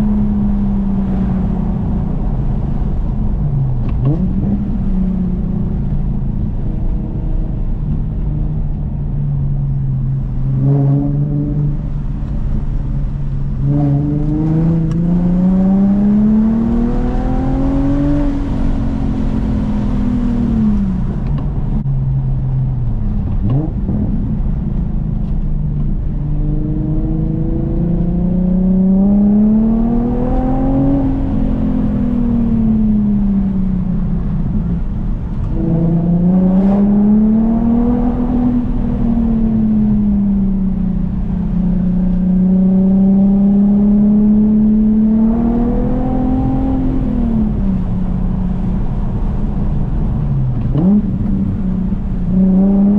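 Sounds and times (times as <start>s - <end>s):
car engine revving: 0.0s - 21.8s, 22.4s - 52.9s.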